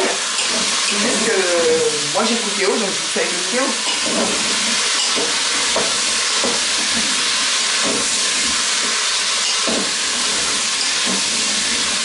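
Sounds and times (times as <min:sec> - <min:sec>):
vegetables sizzling: 0:00.0 - 0:12.0.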